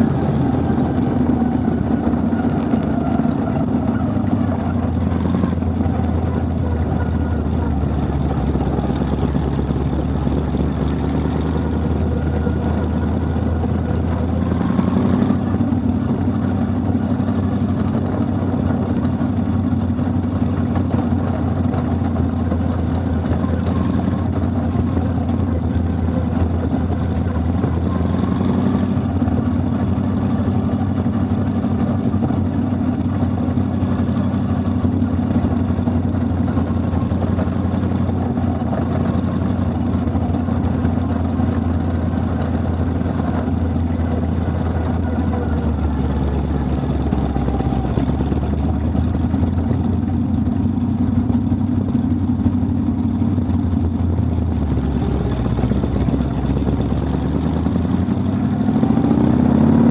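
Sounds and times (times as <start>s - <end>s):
race car engine running: 0.0s - 59.9s.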